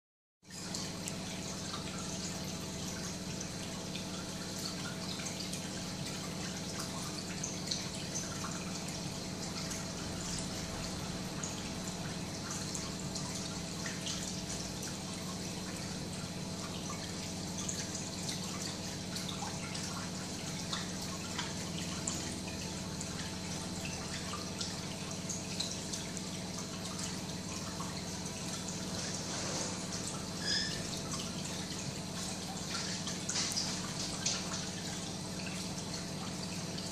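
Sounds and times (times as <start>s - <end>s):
aquarium water trickling: 0.4s - 36.9s.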